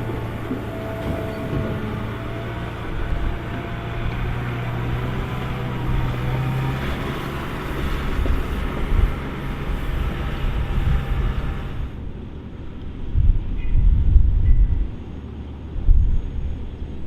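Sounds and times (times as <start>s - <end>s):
harvester machinery noise: 0.0s - 17.0s
tractor engine hum: 0.0s - 17.0s.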